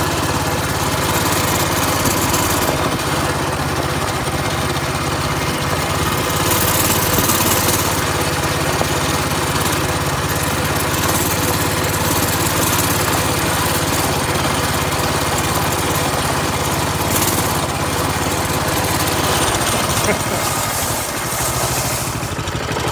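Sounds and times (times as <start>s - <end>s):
small engine running steadily: 0.0s - 22.9s.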